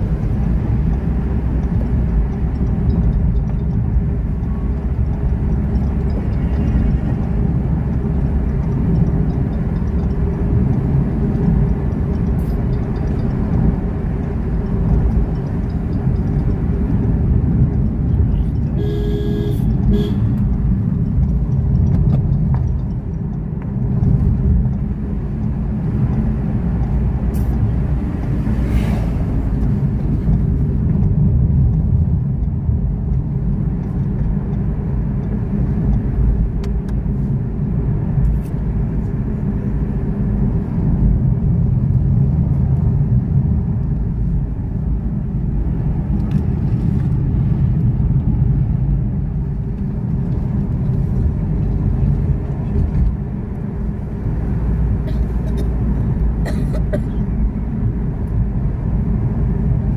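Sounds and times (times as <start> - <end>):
car engine rumble: 0.0 - 59.9.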